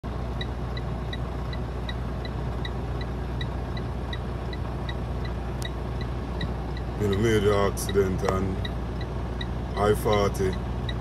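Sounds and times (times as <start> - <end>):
truck engine idling: 0.0 - 11.0
flasher ticking: 0.4 - 11.0.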